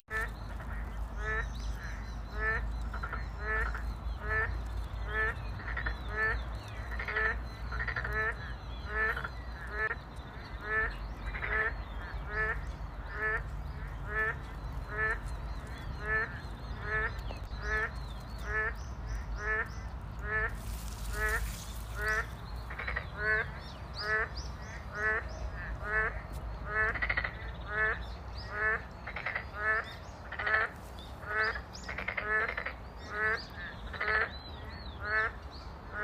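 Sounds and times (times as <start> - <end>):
frog croaking: 0.1 - 34.4
distant frogs calling: 0.1 - 36.0.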